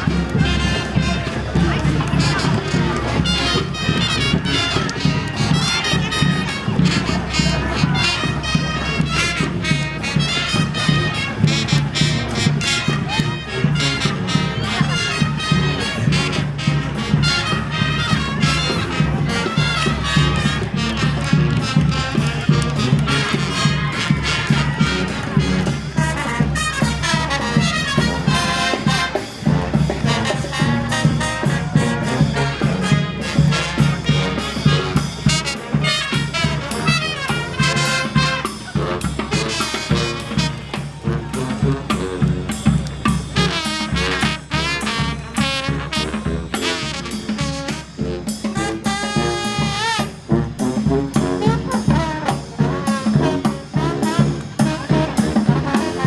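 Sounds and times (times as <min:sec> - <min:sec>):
drums: 0:00.0 - 0:56.0
trumpets and trombones: 0:00.0 - 0:56.0.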